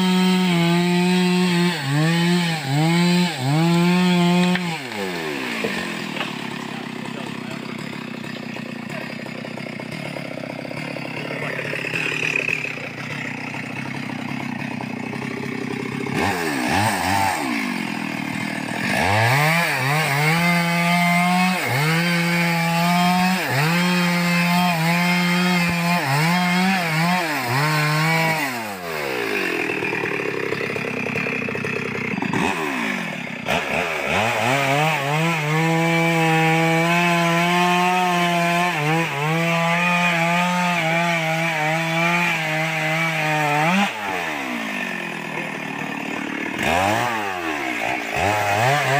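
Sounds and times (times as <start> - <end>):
chainsaw cutting through log: 0.0 - 48.9.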